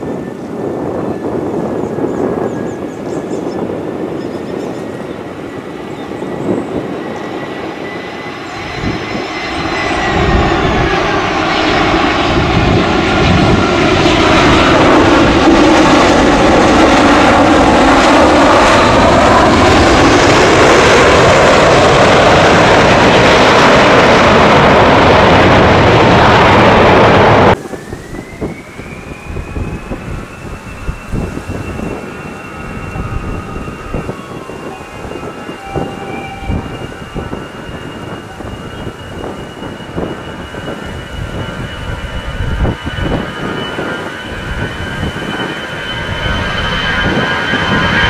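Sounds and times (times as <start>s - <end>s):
jet engine roar: 0.0s - 48.0s
jet engine whine: 0.0s - 48.0s.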